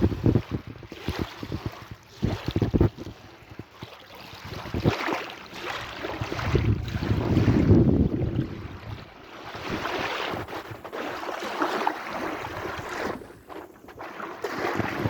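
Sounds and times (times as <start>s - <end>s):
wind buffeting microphone: 0.0s - 5.1s, 5.7s - 11.2s, 12.1s - 15.0s
sea waves lapping: 0.0s - 15.0s.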